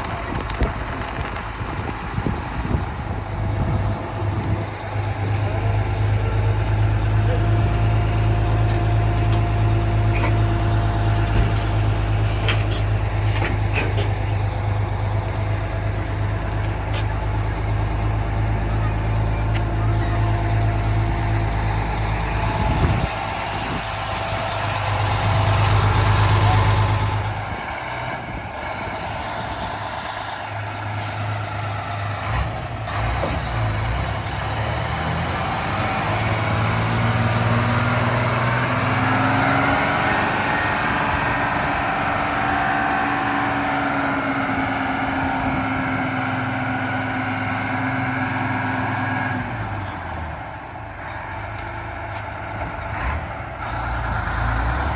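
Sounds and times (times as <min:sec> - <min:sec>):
diesel truck engine running: 0:00.0 - 0:54.9.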